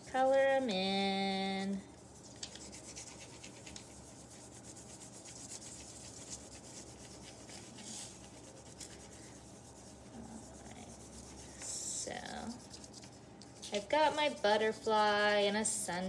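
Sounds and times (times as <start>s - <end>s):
crayon scratching on paper: 1.5s - 15.6s.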